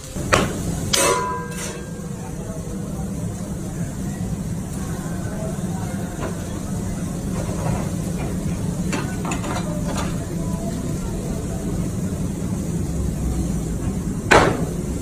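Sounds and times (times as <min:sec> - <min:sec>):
extraction hood humming: 0:00.0 - 0:15.0.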